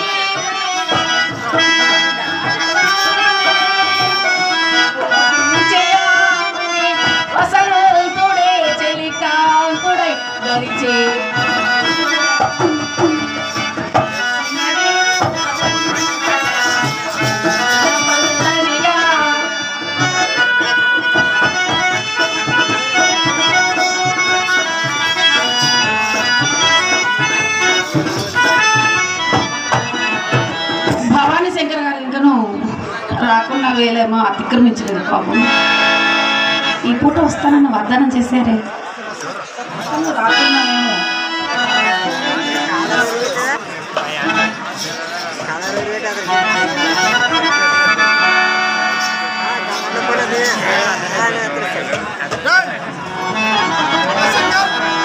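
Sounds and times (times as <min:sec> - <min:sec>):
tabla drumming: 0:00.0 - 0:32.2, 0:32.8 - 0:38.6, 0:39.7 - 0:55.0
harmonium melody: 0:00.0 - 0:55.0.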